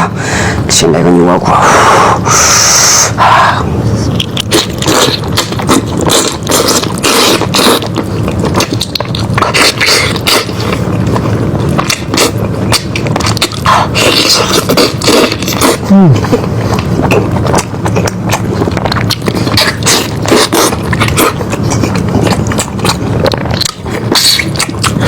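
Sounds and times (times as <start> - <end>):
wet chewing and crunching: 3.9 - 25.0.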